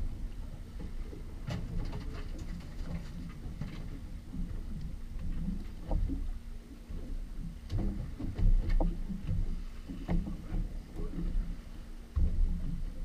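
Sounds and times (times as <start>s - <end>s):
low uneven rumble: 0.0s - 13.0s
water lapping against boat hull: 0.0s - 13.0s
sharp knocks on boat: 0.8s - 13.0s.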